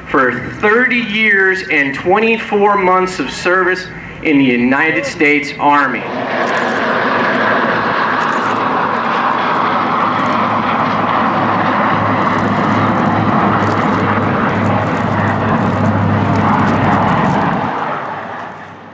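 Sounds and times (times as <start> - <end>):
jet engines running: 0.0 - 18.9.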